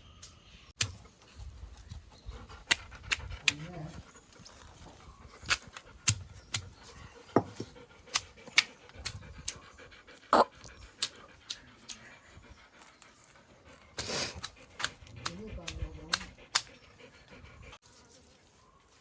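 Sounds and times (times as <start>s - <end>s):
dog panting: 1.0s - 17.8s.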